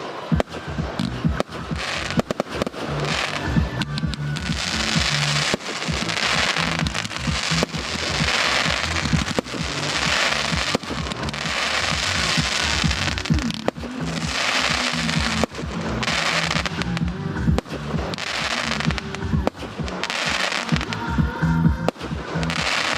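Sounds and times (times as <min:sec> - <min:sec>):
crackling hiss of bursting shells: 0:00.0 - 0:21.0
firework bangs: 0:00.0 - 0:22.9
music playing: 0:00.0 - 0:22.9.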